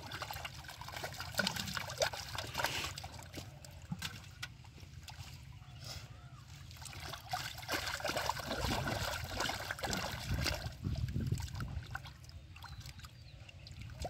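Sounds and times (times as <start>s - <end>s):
hands sloshing in mud and water: 0.0s - 14.0s.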